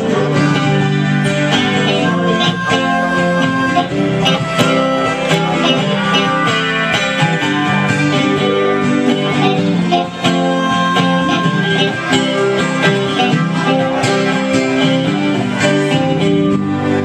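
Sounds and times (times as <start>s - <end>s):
acoustic guitar strumming: 0.0s - 17.0s
amplified harmonica: 0.0s - 17.0s.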